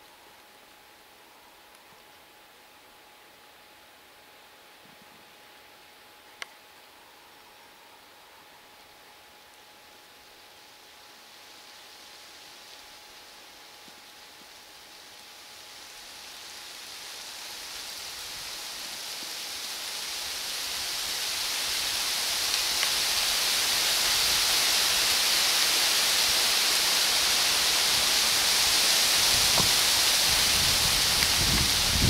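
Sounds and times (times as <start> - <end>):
rain: 0.0 - 32.0.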